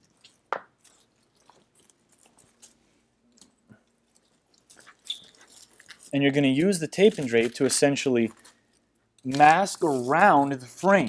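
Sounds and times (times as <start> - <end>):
plastic sheeting crinkling: 0.0 - 10.9.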